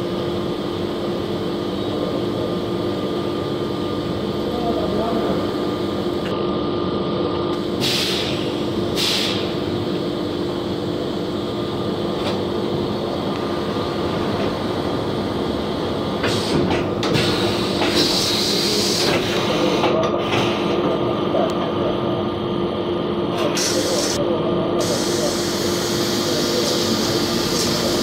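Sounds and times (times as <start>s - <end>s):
machining centre hum and whine: 0.0s - 28.0s.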